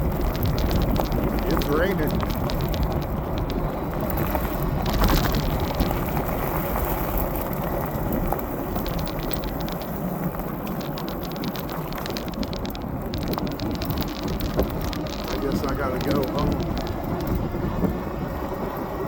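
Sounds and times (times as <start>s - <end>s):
fine rain ticks: 0.0s - 19.0s
wind buffeting microphone: 0.0s - 19.0s.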